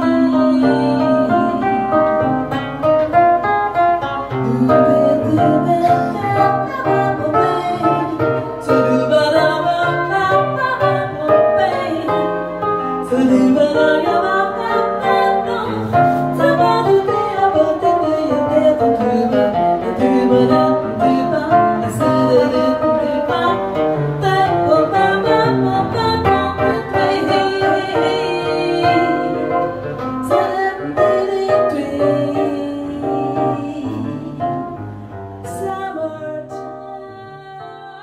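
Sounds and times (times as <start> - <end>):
fingerpicked nylon-string guitar: 0.0 - 38.0
woman singing jazz: 0.0 - 38.0.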